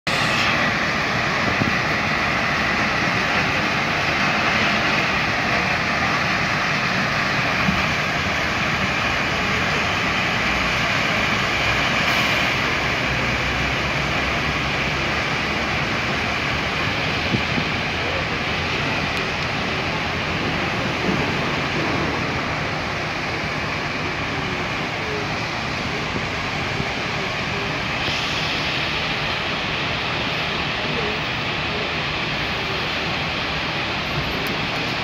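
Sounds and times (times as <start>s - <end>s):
diesel engine running: 0.0s - 35.0s
rushing noise: 0.0s - 35.0s.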